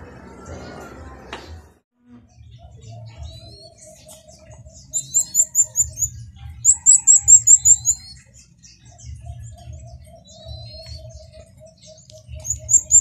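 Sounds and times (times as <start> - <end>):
small birds chirping: 0.4 - 13.0.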